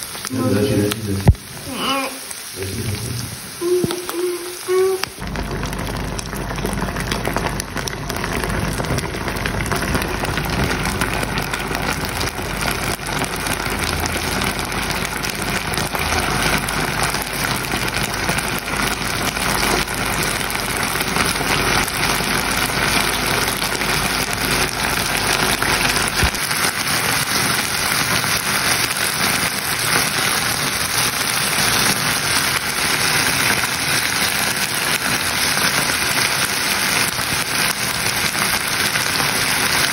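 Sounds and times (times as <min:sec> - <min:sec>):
fish sizzling in a frying pan: 0:00.0 - 0:39.9.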